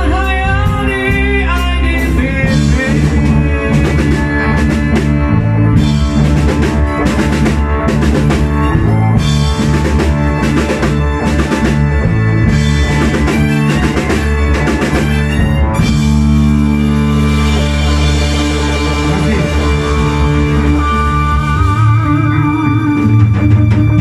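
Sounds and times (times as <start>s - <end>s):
drum kit with cymbals: 0.0s - 24.0s
electric bass: 0.0s - 24.0s
electric guitar: 0.0s - 24.0s
rock band playing live: 0.0s - 24.0s.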